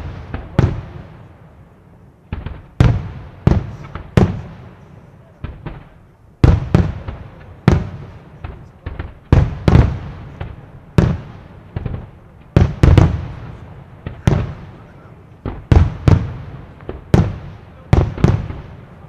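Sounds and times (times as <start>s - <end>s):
fireworks booming with echo: 0.0s - 19.0s.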